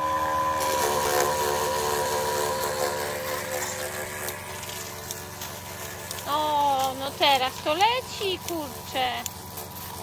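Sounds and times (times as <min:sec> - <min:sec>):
electric water pump whining: 0:00.0 - 0:10.0
water spraying from hose: 0:00.0 - 0:10.0.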